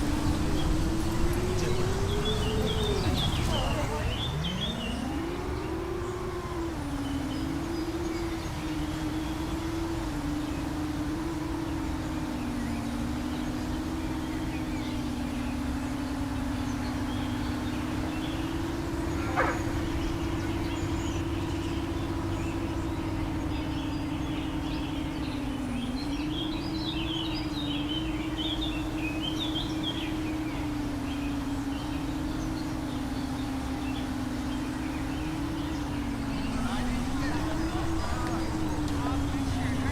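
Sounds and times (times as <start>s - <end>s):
birds chirping: 0.0s - 39.9s
quadcopter motors humming: 0.0s - 39.9s.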